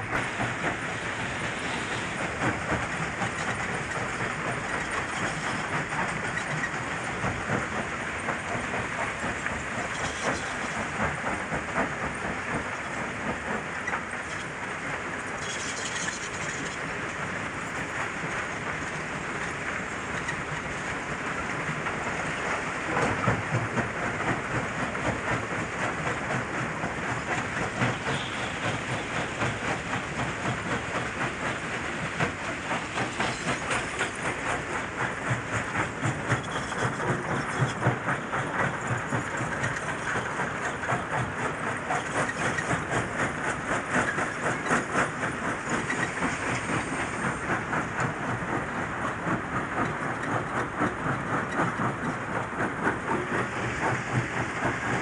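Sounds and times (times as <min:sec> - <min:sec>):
machinery running: 0:00.0 - 0:55.0.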